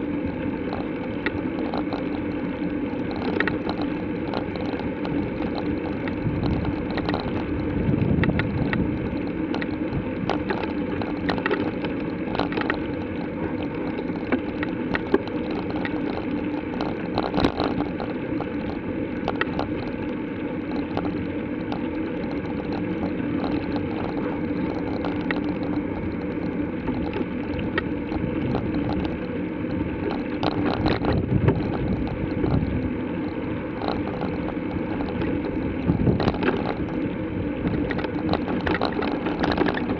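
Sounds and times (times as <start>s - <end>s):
bicycle rolling on pavement: 0.0s - 39.9s
small clicks and knocks: 0.7s - 2.2s, 3.1s - 7.4s, 8.1s - 8.8s, 9.5s - 19.9s, 20.7s - 29.3s, 30.0s - 32.7s, 33.8s - 37.0s, 37.6s - 39.9s.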